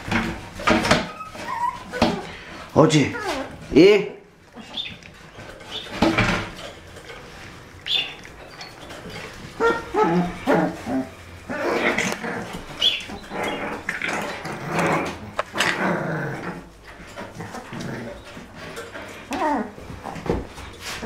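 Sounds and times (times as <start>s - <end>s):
puppies growling and yapping: 0.0s - 21.0s.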